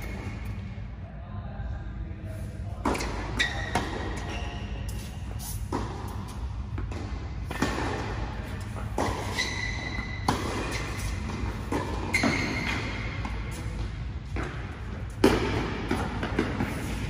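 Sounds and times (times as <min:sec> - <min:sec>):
steady low hum: 0:00.0 - 0:17.0
tennis balls struck by rackets: 0:02.7 - 0:17.0
tennis balls bouncing on hard court: 0:02.8 - 0:17.0.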